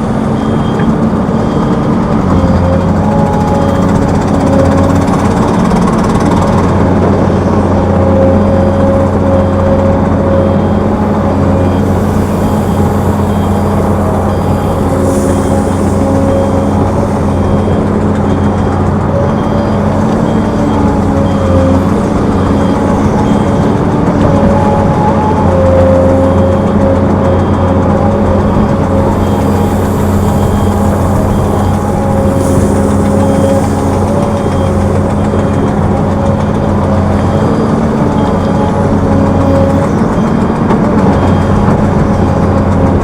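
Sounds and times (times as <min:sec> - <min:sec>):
heavy diesel machinery droning: 0:00.0 - 0:43.0.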